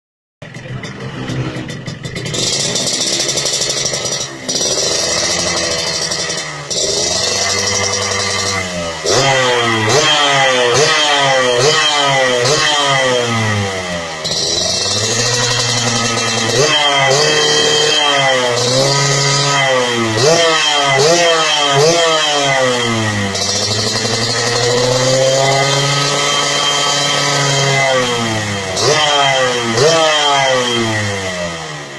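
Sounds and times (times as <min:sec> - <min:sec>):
two-stroke motorcycle engine revving: 0:00.4 - 0:31.9.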